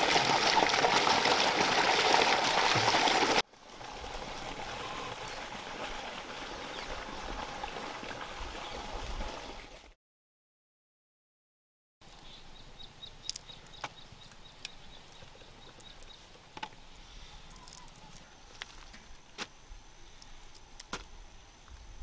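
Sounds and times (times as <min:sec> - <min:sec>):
rural background ambience: 0:00.0 - 0:09.9, 0:12.0 - 0:22.0.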